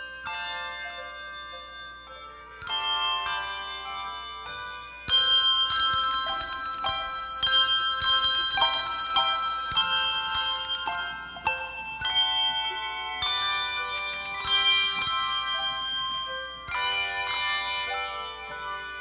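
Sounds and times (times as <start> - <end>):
handbell choir playing: 0.0 - 19.0.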